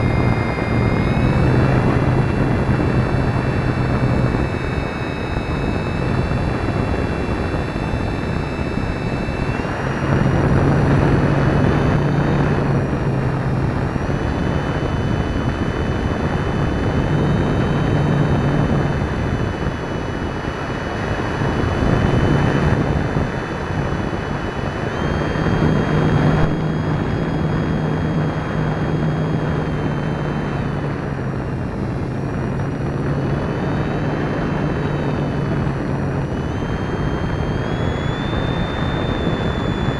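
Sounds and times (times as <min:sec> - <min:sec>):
high motor whine: 0:00.0 - 0:39.9
low propeller hum: 0:00.0 - 0:39.9.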